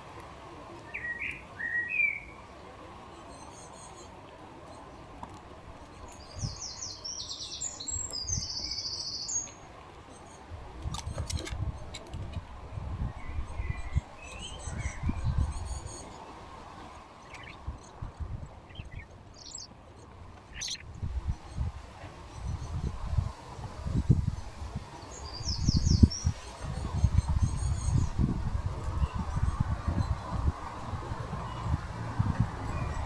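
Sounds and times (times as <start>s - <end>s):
birds chirping: 0.7s - 12.0s, 13.0s - 23.1s, 24.0s - 33.0s.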